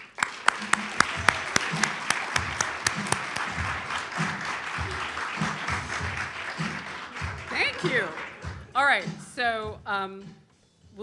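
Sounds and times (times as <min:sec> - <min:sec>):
audience applauding: 0:00.0 - 0:08.9
music with steady beat: 0:00.1 - 0:11.0.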